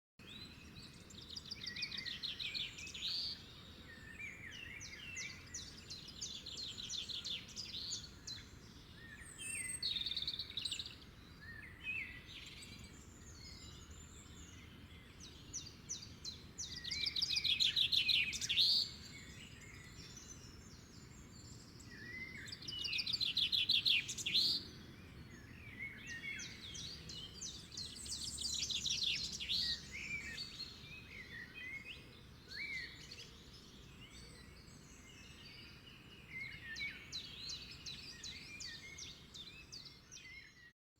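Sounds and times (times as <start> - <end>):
soft bird chirps: 0.2 - 40.7
songbirds trilling: 0.5 - 40.6.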